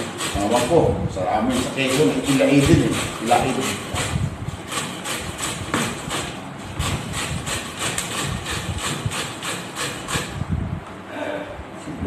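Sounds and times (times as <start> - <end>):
mango scraping on metal grater: 0.0 - 10.4.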